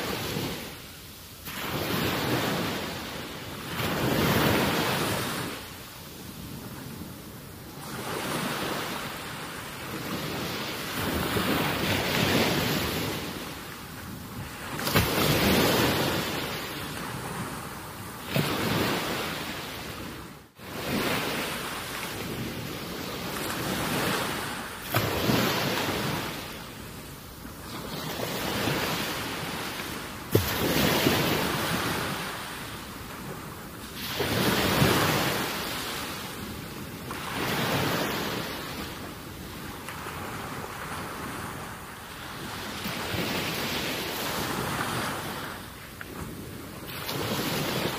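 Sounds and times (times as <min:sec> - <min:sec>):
small waves on water: 0:00.0 - 0:47.9.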